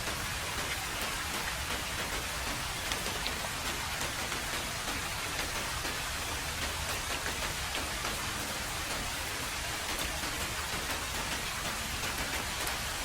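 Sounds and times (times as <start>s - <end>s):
heavy rain on a road: 0.0s - 13.0s.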